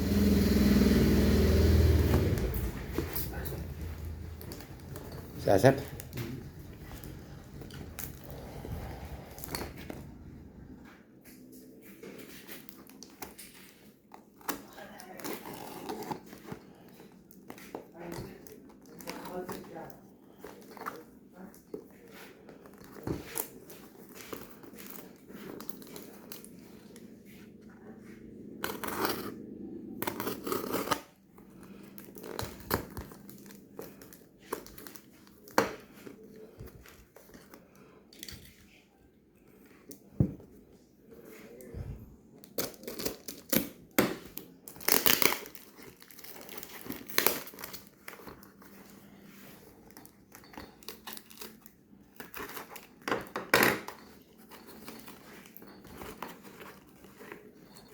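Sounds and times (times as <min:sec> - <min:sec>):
cardboard and plastic crinkling: 0:01.8 - 0:10.2, 0:12.0 - 0:29.4, 0:30.0 - 0:38.8, 0:39.5 - 0:57.9.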